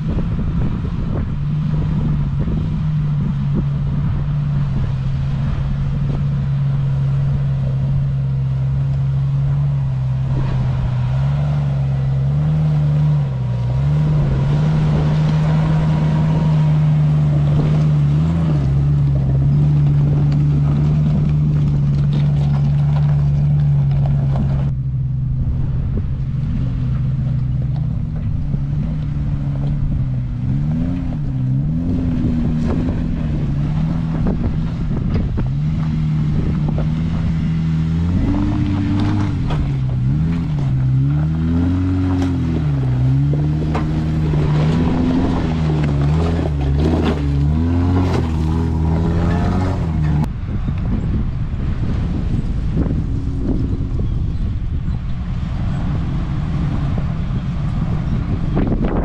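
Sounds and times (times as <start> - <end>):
car engine running: 0.0 - 59.0
wind and road hiss: 0.0 - 59.0.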